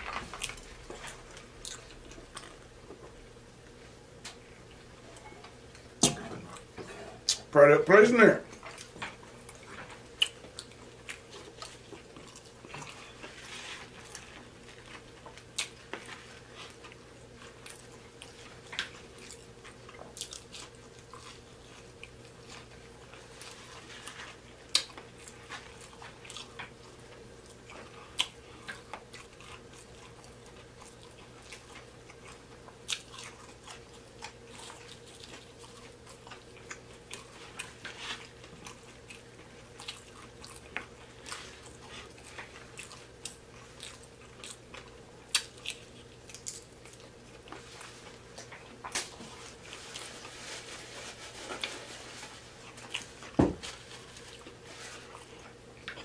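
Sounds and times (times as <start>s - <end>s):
chewing crunchy food: 0.0s - 7.5s, 8.5s - 56.0s.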